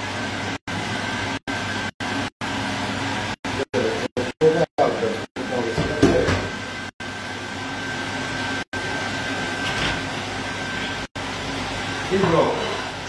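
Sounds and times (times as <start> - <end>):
kitchen appliance whirring: 0.0 - 13.0.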